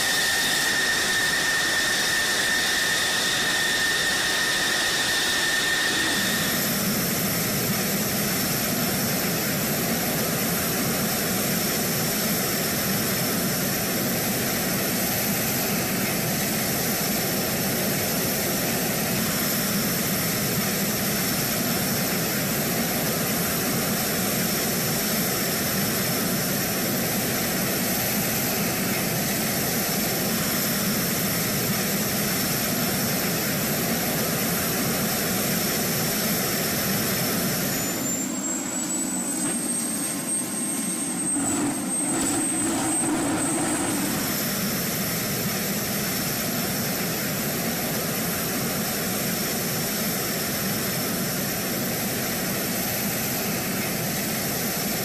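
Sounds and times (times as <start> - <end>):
jet engine running: 0.0 - 55.0.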